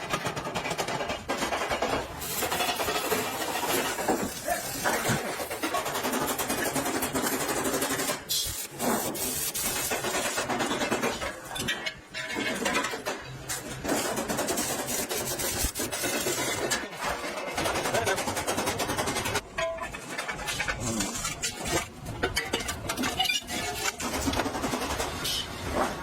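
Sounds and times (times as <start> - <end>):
factory machinery clattering: 0.0 - 26.0.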